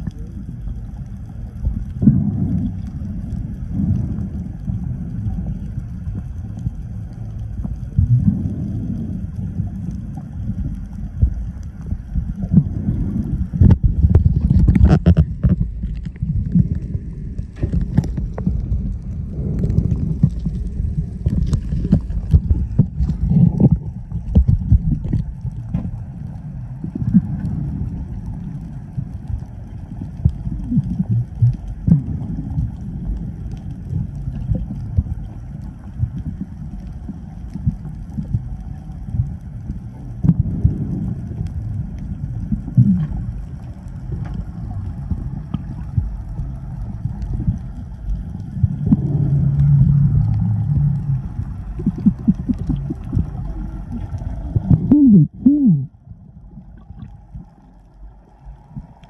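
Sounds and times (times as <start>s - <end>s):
gurgling bubbles: 0.0s - 59.0s
muffled underwater sloshing: 0.0s - 59.0s.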